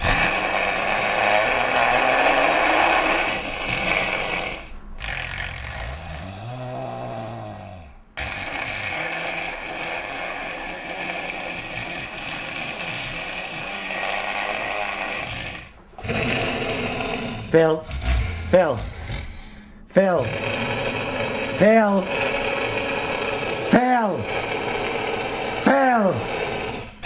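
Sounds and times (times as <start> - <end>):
man snoring loudly: 0.0 - 27.0.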